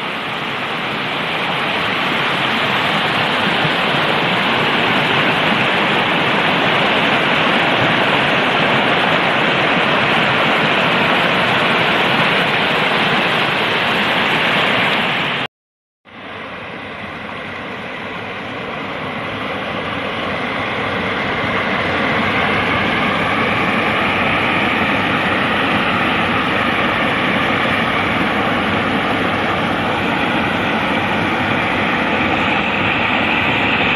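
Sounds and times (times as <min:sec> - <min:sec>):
stream water rushing over rocks: 0:00.0 - 0:15.5, 0:19.0 - 0:33.9.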